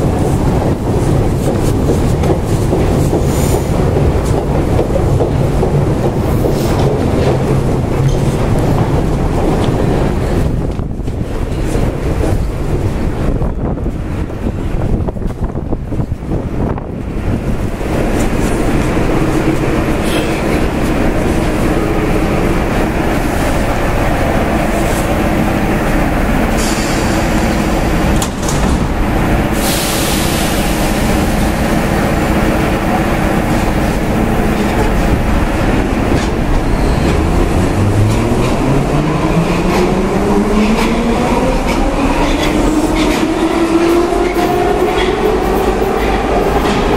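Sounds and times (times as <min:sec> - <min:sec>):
train humming: 0:00.0 - 0:46.9.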